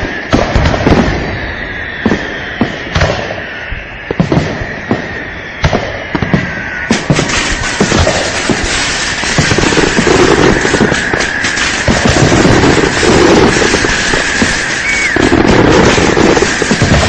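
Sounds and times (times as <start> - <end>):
fireworks bangs: 0.0 - 17.0
fireworks crackling: 0.0 - 17.0
high whistle: 1.0 - 17.0.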